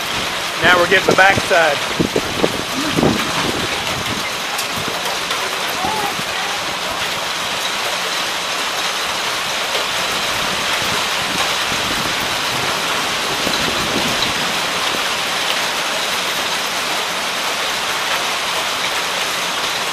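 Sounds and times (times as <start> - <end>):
steady rain hiss: 0.0 - 19.9.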